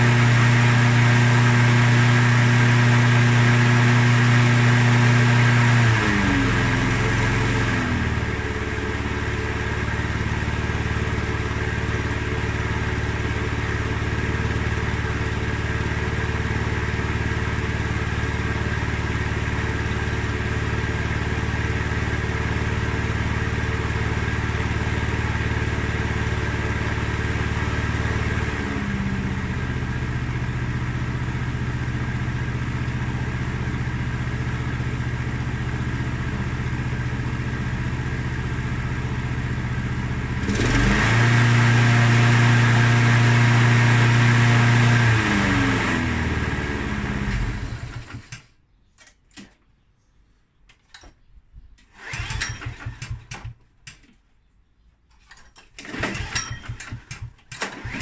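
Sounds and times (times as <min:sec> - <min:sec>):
lawn mower engine running: 0:00.0 - 0:48.6, 0:51.9 - 0:54.0, 0:55.3 - 0:58.0.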